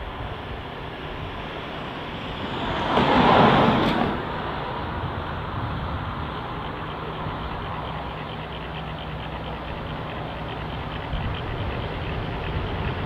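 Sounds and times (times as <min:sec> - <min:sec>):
steady vehicle rumble: 0:00.0 - 0:13.0
vehicle passing close: 0:00.0 - 0:13.0.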